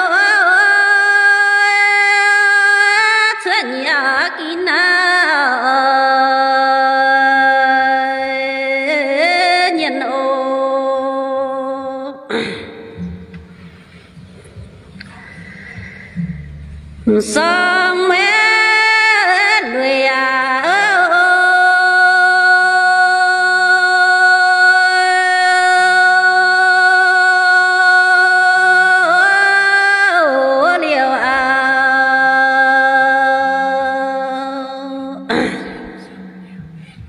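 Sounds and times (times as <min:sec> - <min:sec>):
woman singing unaccompanied: 0:00.0 - 0:12.4, 0:17.0 - 0:37.0.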